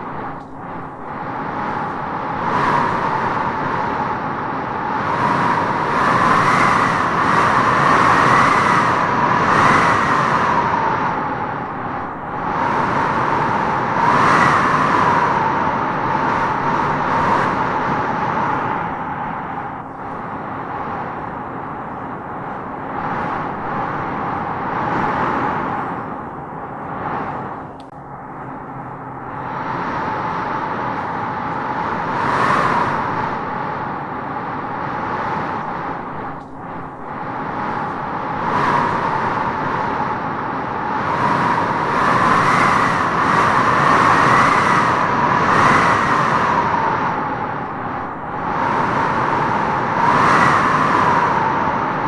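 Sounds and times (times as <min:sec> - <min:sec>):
wind gusting with whistling howl: 0:00.0 - 0:52.0.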